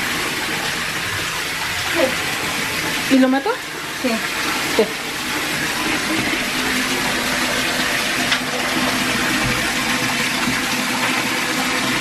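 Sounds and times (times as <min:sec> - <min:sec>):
water pouring into bathtub: 0:00.0 - 0:12.0.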